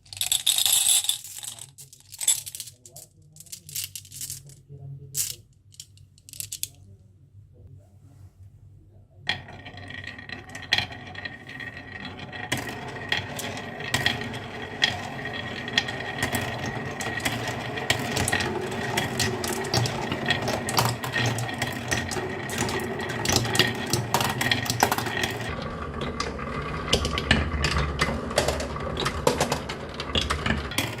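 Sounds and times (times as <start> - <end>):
marbles clicking and clacking: 0.0 - 4.6, 9.3 - 31.0.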